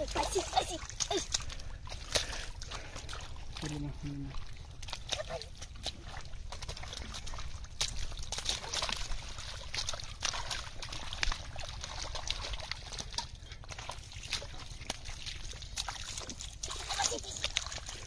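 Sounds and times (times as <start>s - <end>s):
squelching and splashing in mud water: 0.0s - 18.0s
water dripping: 0.0s - 18.0s.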